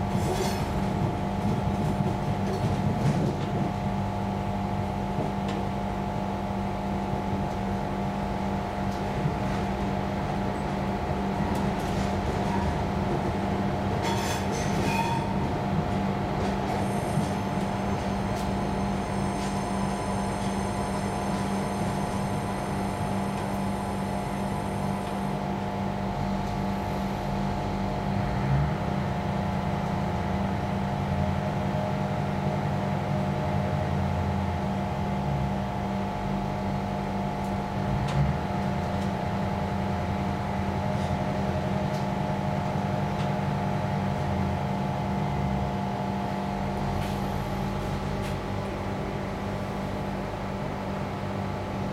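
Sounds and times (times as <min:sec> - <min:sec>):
train carriage equipment hum: 0:00.0 - 0:51.9.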